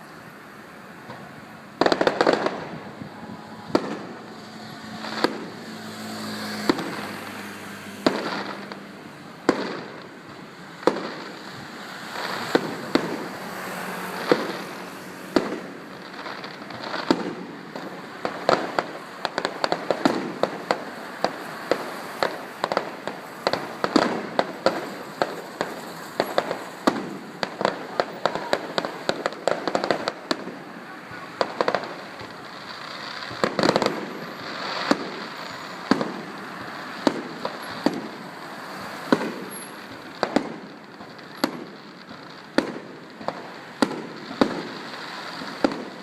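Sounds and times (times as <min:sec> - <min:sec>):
fireworks bursting with bangs: 0:00.0 - 0:46.0
rapid barrage of firework cracks: 0:00.0 - 0:46.0.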